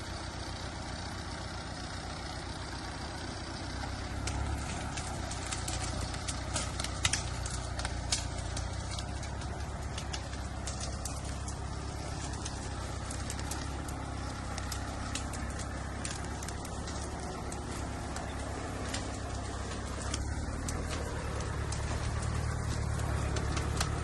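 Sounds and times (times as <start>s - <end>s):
tractor engine running: 0.0s - 24.0s
sharp clicks and rattles: 3.8s - 24.0s.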